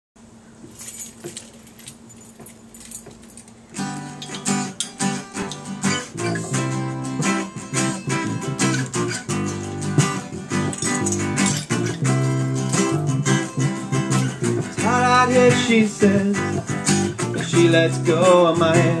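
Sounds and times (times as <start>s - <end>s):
acoustic guitar strumming chords: 3.7s - 19.0s.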